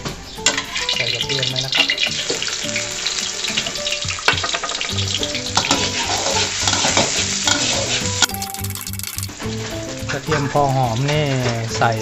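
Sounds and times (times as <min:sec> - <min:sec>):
garlic sizzling in oil: 0:00.1 - 0:12.0
spatula scraping and tapping pan: 0:00.4 - 0:11.2.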